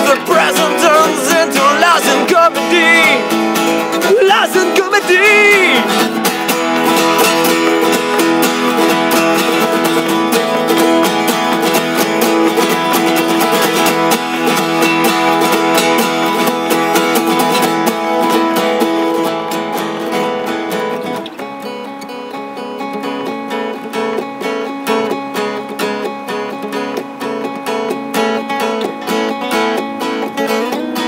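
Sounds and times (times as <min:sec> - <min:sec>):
acoustic guitars strumming: 0:00.0 - 0:31.0.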